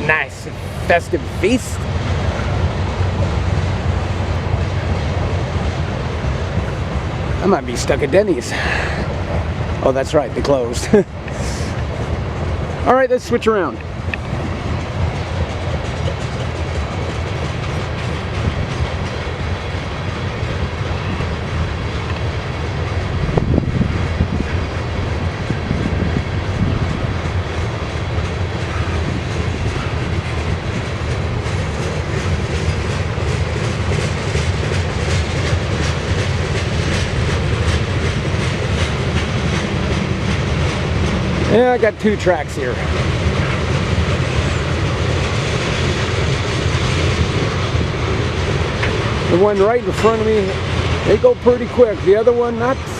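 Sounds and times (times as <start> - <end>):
clickety-clack over rail joints: 0.0 - 52.9
train wheels rumbling on rail: 0.0 - 52.9.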